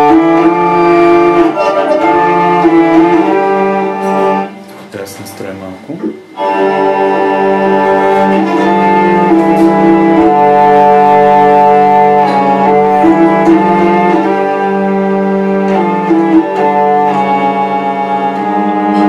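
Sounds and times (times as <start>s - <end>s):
hurdy-gurdy melody over drone: 0.0s - 5.5s, 6.2s - 19.0s.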